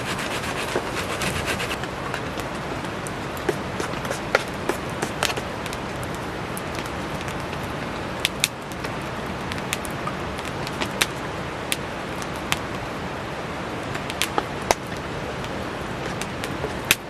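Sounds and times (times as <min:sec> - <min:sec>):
campfire crackling: 0:00.0 - 0:17.0
rain falling: 0:00.0 - 0:17.0.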